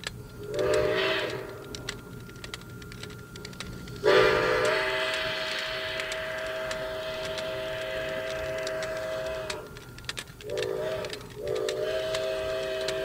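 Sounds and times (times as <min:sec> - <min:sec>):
toy train crank clicking: 0:00.0 - 0:13.0
toy train whistle: 0:00.4 - 0:02.0, 0:04.0 - 0:13.0.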